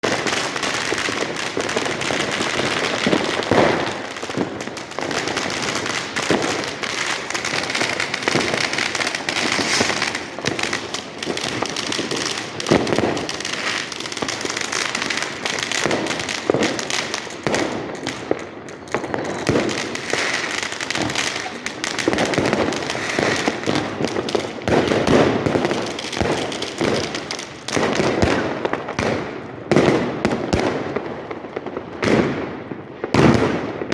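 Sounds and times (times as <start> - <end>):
fireworks and firecrackers crackling: 0.0 - 33.9.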